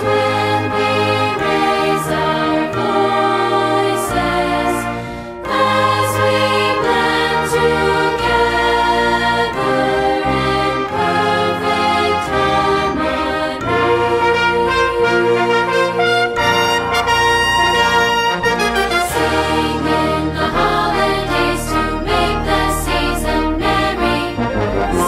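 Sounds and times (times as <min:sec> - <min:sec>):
choir singing holiday song: 0:00.0 - 0:25.0
instrumental accompaniment: 0:00.0 - 0:25.0.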